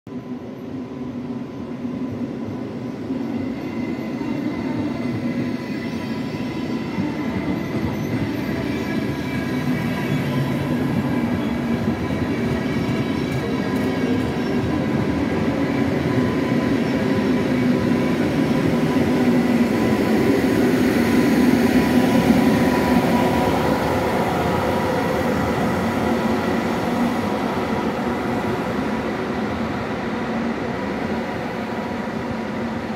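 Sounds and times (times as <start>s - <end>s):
train wheels rumbling on rail: 1.4s - 32.9s.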